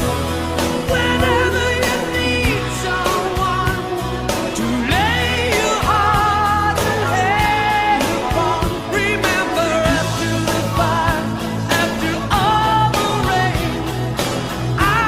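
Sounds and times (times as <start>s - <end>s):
bass: 0.0s - 15.0s
drums: 0.0s - 15.0s
sung vocal melody: 0.0s - 15.0s.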